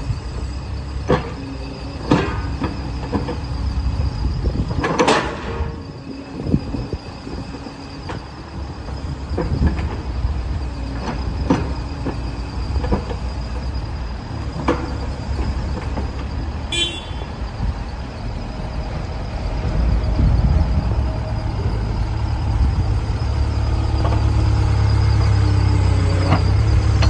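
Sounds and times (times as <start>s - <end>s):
diesel engine low rumble: 0.0s - 27.0s.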